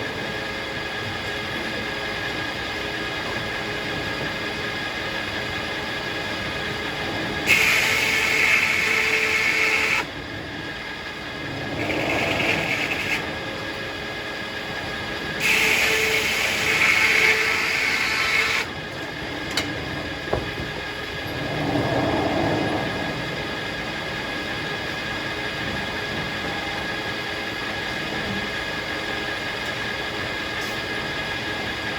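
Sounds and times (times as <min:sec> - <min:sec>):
circular sawmill whine: 0:00.0 - 0:31.9.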